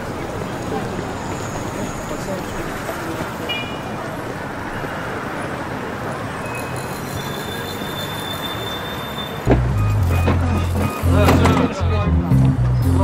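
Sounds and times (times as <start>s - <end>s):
passing vehicles rumble: 0.0s - 13.0s.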